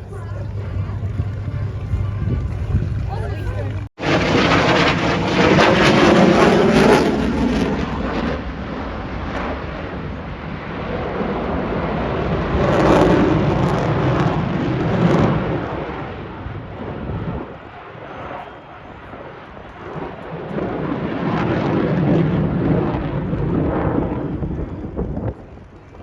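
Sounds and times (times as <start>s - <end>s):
plane engine flying past: 0.0s - 26.0s.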